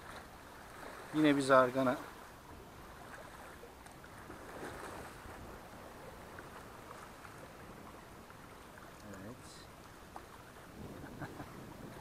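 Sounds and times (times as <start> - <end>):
small waves on rocks: 0.0 - 12.0.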